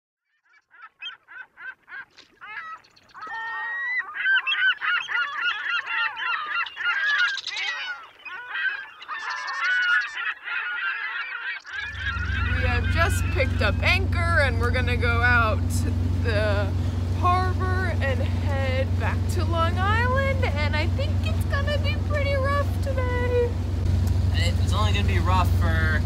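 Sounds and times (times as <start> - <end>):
waterbirds calling: 0.2 - 26.0.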